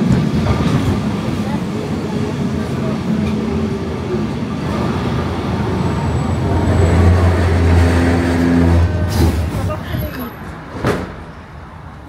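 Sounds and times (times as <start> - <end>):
tram rumbling on rails: 0.0 - 12.0.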